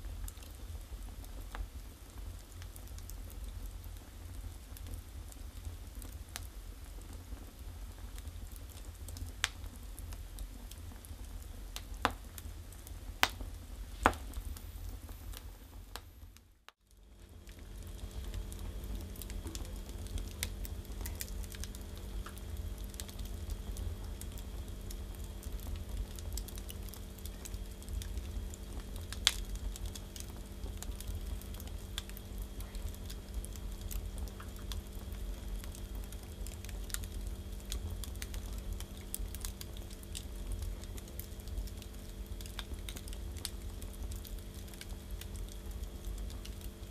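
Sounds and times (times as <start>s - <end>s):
firewood crackling and popping: 0.0s - 46.9s
low rumble of flames: 0.0s - 46.9s.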